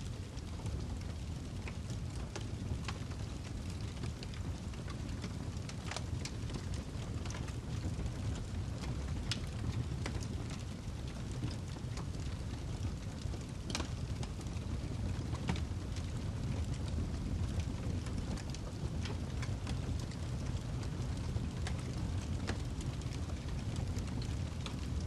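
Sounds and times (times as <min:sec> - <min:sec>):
fire low rumble: 0:00.0 - 0:25.0
log fire crackling: 0:00.0 - 0:25.0.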